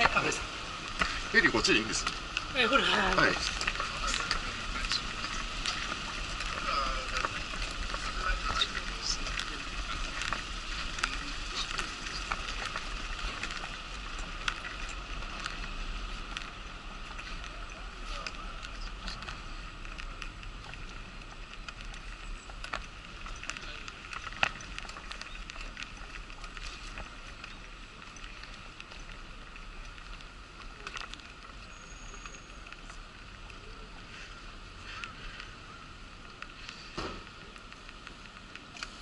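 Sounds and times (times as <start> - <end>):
wheelchair rolling over paving: 0.0 - 39.0.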